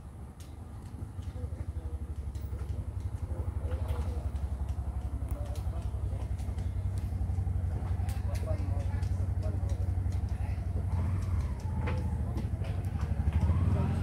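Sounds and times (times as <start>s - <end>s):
low pulsing engine rumble: 0.0s - 14.0s.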